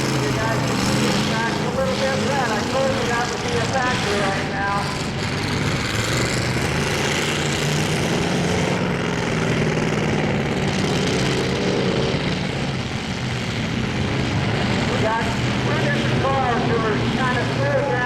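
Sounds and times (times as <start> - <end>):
car engines running loud: 0.0 - 18.0
engine revving: 0.0 - 18.0.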